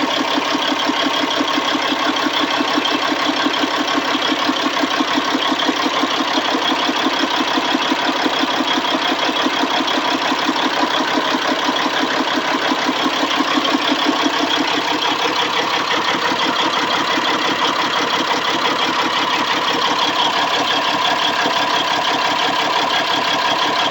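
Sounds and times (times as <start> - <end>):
engine idling roughly: 0.0 - 23.9.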